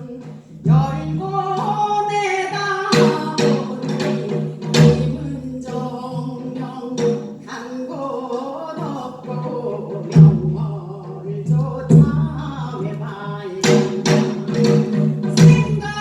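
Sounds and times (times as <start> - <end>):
woman singing folk song: 0.0 - 16.0.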